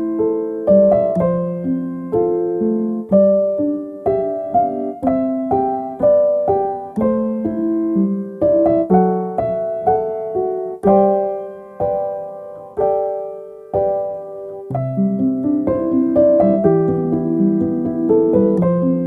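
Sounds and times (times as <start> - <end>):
calm piano music: 0.0 - 19.0.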